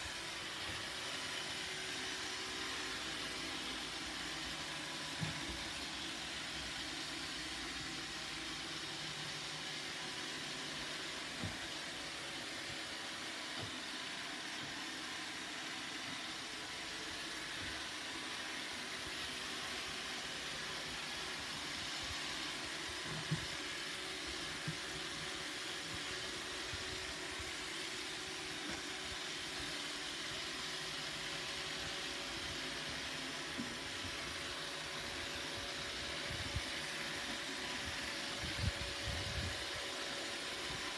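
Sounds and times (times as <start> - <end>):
robot vacuum whirring: 0.0 - 40.9.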